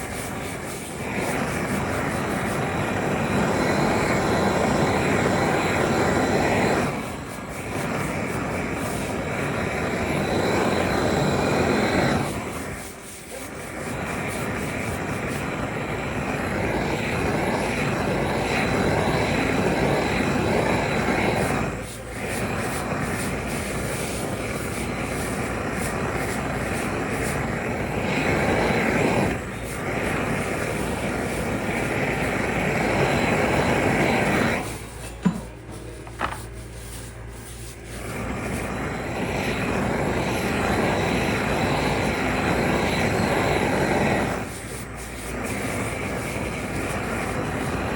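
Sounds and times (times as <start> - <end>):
factory equipment rushing noise: 0.0 - 47.9.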